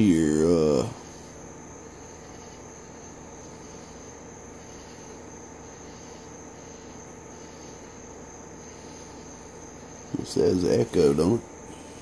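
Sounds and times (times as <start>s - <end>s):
low electrical hum and hiss: 0.0s - 12.0s.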